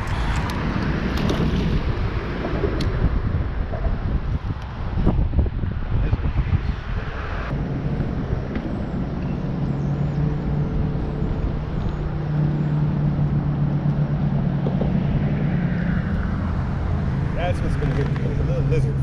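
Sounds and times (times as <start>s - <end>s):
traffic on concrete bridge: 0.0s - 19.0s.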